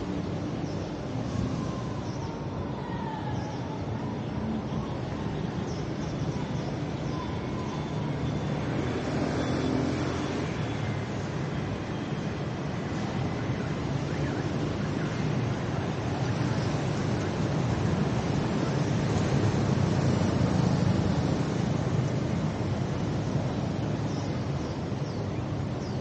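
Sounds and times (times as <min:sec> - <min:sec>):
city road traffic rumble: 0:00.0 - 0:26.0.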